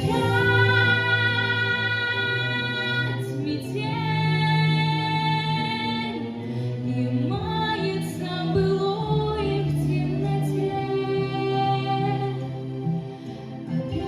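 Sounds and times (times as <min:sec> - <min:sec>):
musical accompaniment: 0:00.0 - 0:14.0.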